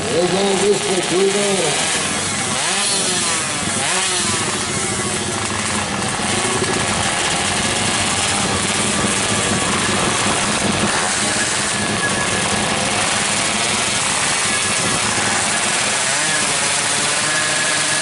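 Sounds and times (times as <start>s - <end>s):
motorbikes revving hard: 0.0s - 18.0s.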